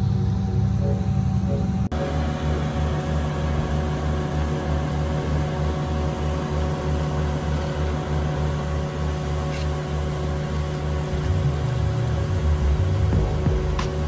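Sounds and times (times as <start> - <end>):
diesel engine throbbing: 0.0 - 14.0.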